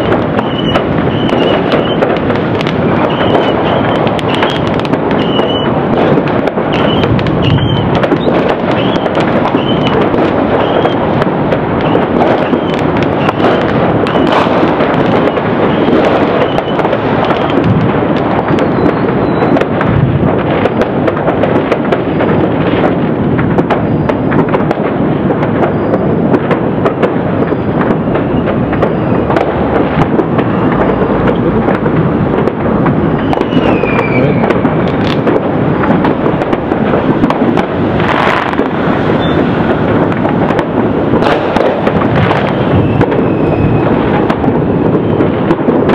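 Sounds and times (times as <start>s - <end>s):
fireworks and firecrackers popping: 0.0s - 45.9s.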